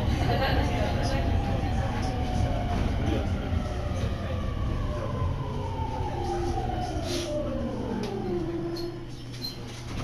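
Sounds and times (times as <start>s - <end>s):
train running gear rumble: 0.0s - 10.0s.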